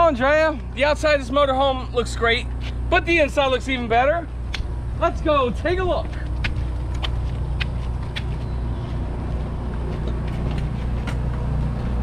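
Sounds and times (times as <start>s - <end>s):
low machine hum: 0.0s - 12.0s
footsteps on asphalt: 0.4s - 12.0s.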